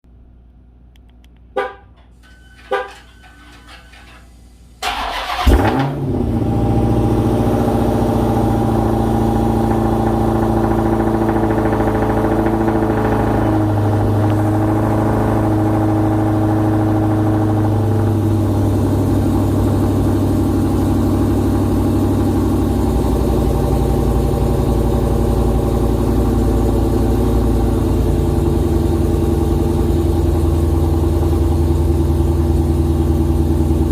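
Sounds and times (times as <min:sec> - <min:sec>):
car engine starting: 0:01.3 - 0:33.9
car engine idling: 0:01.4 - 0:33.9.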